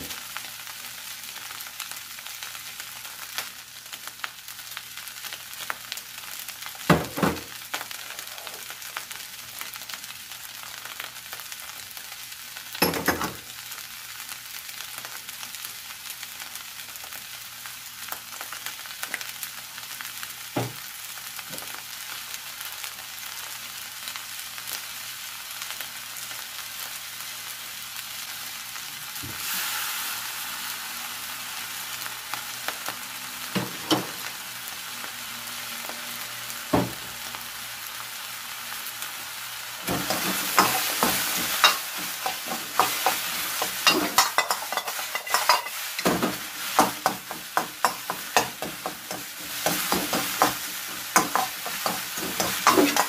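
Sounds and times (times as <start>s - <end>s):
fried rice sizzling in a wok: 0.0s - 53.0s.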